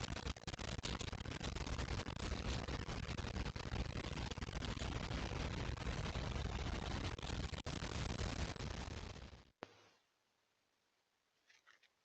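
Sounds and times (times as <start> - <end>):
steady rushing hiss: 0.0 - 9.9
faint crackles: 0.0 - 10.1, 11.4 - 12.0.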